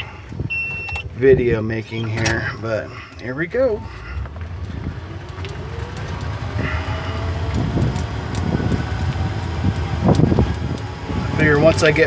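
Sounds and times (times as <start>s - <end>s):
cab rattle: 0.0s - 12.0s
vehicle low rumble: 0.0s - 12.0s.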